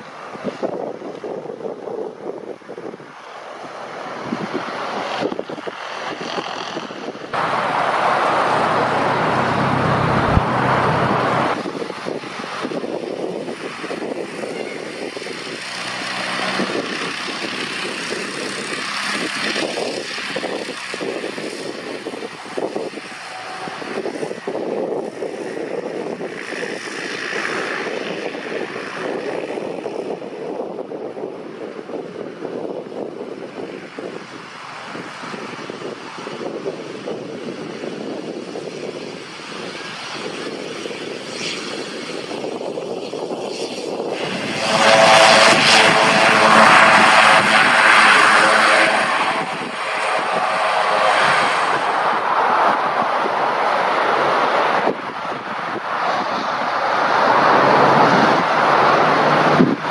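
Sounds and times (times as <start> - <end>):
propeller aircraft engine droning: 0.0 - 59.9.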